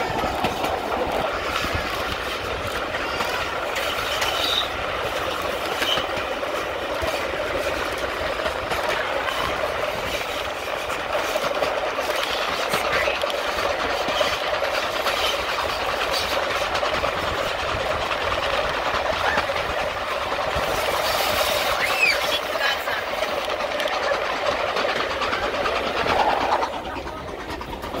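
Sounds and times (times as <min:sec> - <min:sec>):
people's voices: 0:00.0 - 0:14.8, 0:16.8 - 0:28.0
steam train rumbling: 0:00.0 - 0:28.0.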